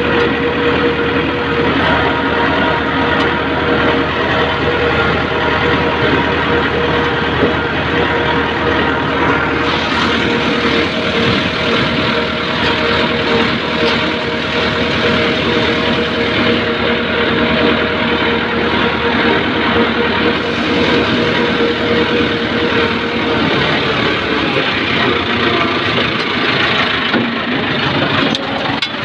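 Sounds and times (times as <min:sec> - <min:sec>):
diesel tractor engine running: 0:00.0 - 0:29.0.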